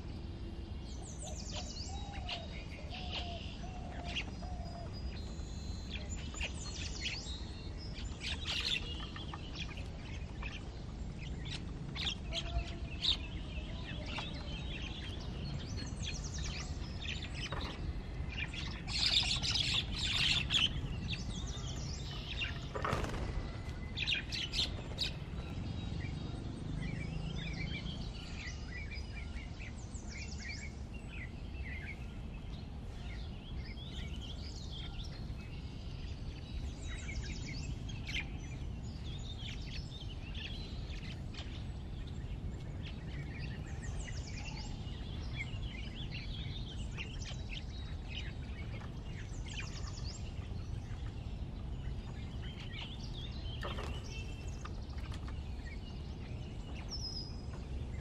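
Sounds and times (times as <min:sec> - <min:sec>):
birds chirping: 0:00.0 - 0:58.0
low rumble: 0:09.7 - 0:58.0.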